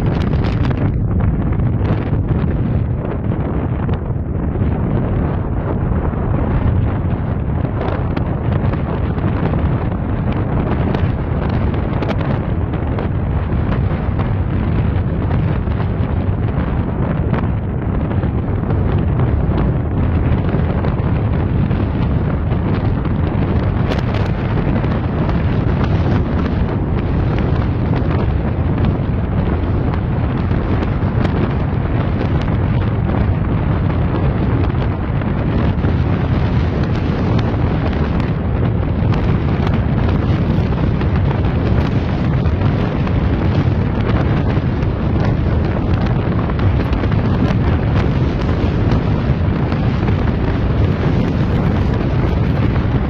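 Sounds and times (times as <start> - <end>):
road and engine rumble: 0.0 - 53.0
wind buffeting microphone: 0.0 - 53.0.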